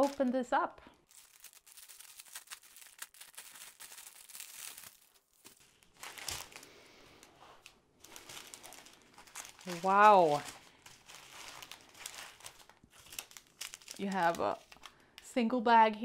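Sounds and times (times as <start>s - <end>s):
plastic wrap tearing and crinkling: 0.0s - 0.3s, 0.9s - 15.0s.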